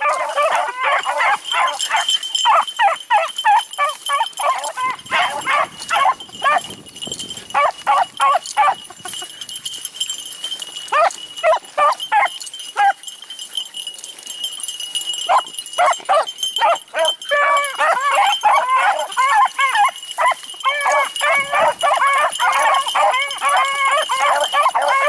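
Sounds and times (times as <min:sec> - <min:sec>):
dogs baying: 0:00.0 - 0:06.7, 0:07.5 - 0:09.5, 0:10.8 - 0:13.1, 0:15.2 - 0:25.0.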